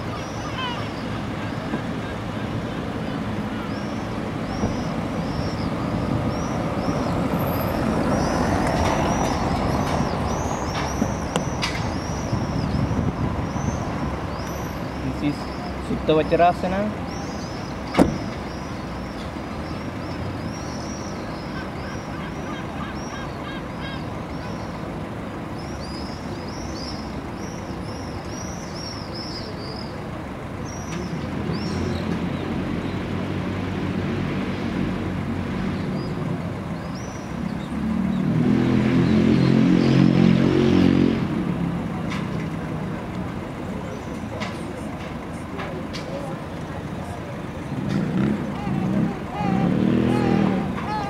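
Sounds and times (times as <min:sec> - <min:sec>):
large vehicle engine passing: 0:00.0 - 0:27.4, 0:29.6 - 0:51.0
birds chirping: 0:00.0 - 0:33.7, 0:35.2 - 0:41.0, 0:41.6 - 0:51.0.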